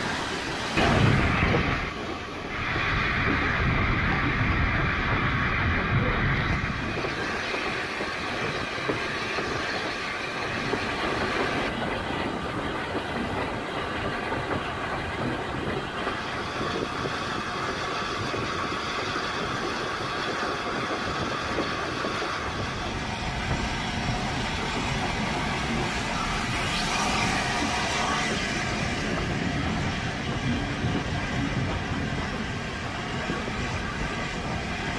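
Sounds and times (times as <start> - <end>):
train wheels clicking over rail joints: 6.0 - 34.9.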